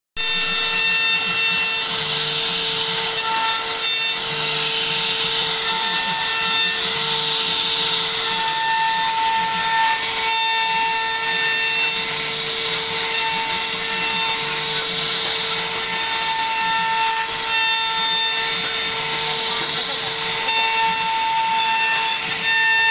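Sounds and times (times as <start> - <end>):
bit cutting wood hiss: 0.2 - 22.9
cnc router spindle whine: 0.2 - 22.9.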